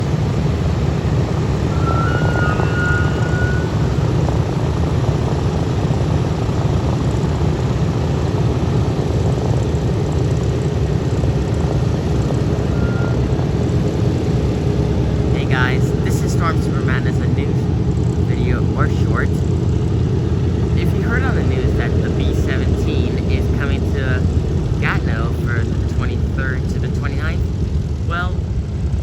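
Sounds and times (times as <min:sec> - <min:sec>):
radial piston engines rumbling: 0:00.0 - 0:29.0.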